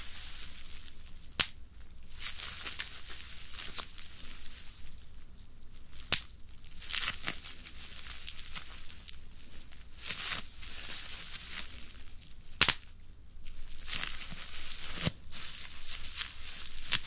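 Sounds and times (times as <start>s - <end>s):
bubble wrap pops: 0.0s - 4.9s, 5.8s - 17.0s
bubble wrap crinkling: 0.0s - 17.0s.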